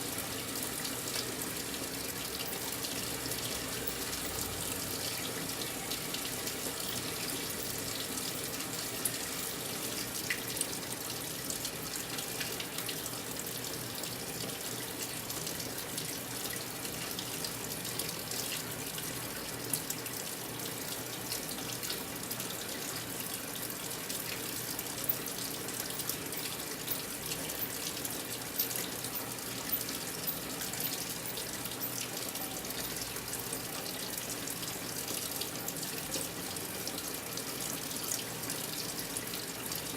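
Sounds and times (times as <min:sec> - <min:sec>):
water rushing into washing machine: 0:00.0 - 0:39.9.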